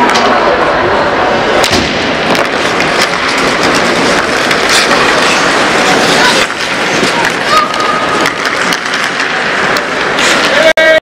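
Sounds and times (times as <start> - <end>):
hockey sticks clacking: 0.0 - 0.5, 1.5 - 11.0
skate blades scraping ice: 2.2 - 11.0.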